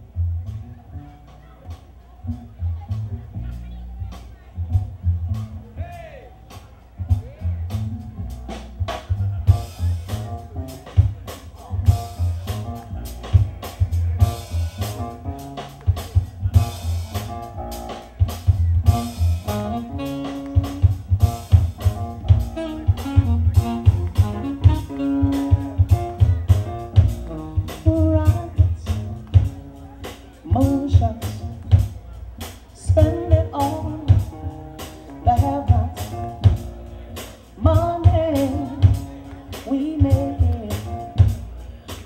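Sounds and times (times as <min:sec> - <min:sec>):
drum kit: 0:00.0 - 0:42.0
keyboard melody: 0:00.0 - 0:42.0
upright bass line: 0:00.0 - 0:42.0.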